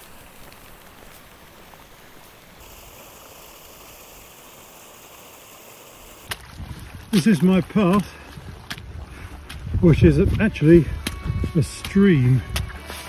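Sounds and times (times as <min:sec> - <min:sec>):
stream splashing over rocks: 0:00.0 - 0:13.0.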